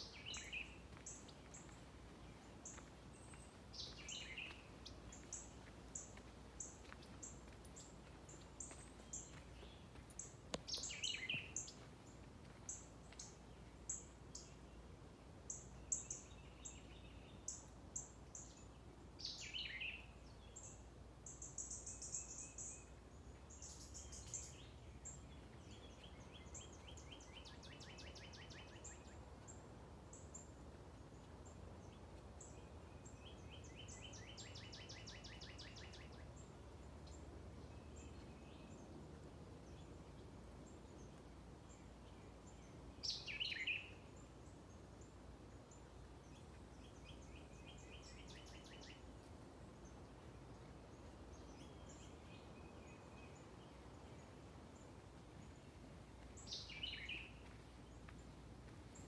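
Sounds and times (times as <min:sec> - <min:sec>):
faint background noise: 0:00.0 - 0:59.0
songbirds chirping: 0:00.0 - 0:59.0.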